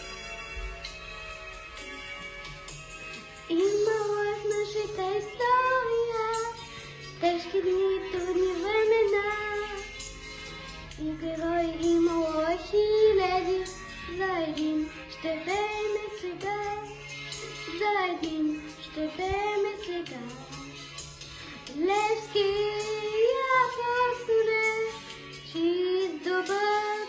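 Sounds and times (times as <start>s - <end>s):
instrumental backing track: 0.0s - 27.0s
girl singing: 3.5s - 10.1s, 10.9s - 20.8s, 21.5s - 27.0s.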